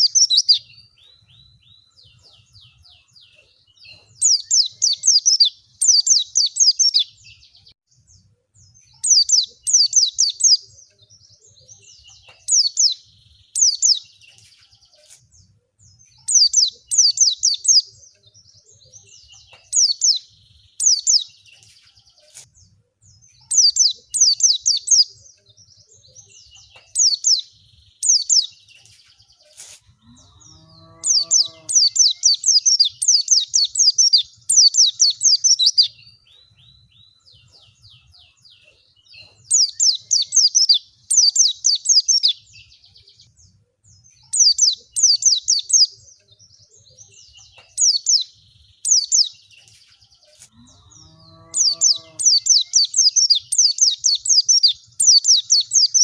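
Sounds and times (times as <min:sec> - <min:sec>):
birds chirping in quick bursts: 0:00.0 - 0:56.0.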